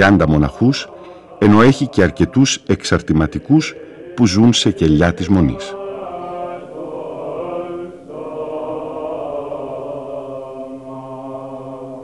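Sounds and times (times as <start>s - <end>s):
voices singing church chant: 0.0s - 12.0s.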